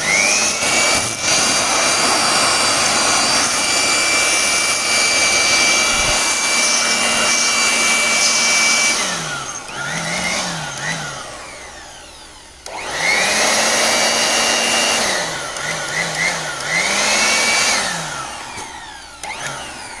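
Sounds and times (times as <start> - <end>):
electric blower motor whining: 0.0 - 20.0.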